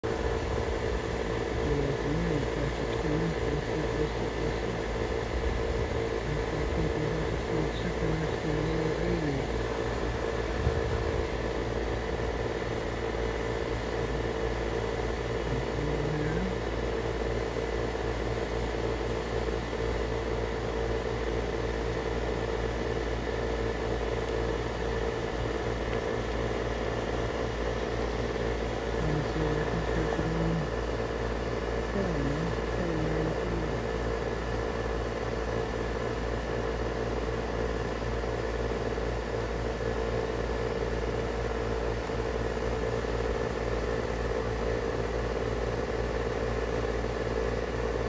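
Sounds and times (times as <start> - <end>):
steady mechanical hum: 0.0 - 48.0.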